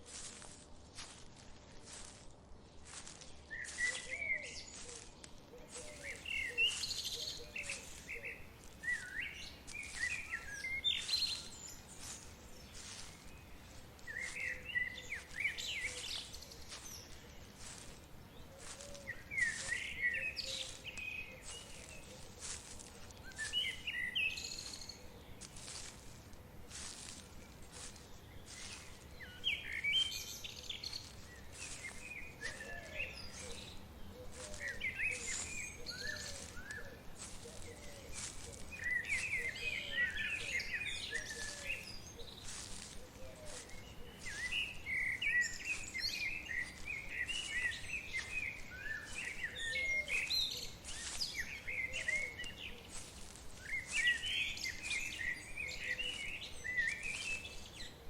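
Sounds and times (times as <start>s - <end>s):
songbirds chirping and singing: 0.1s - 58.0s.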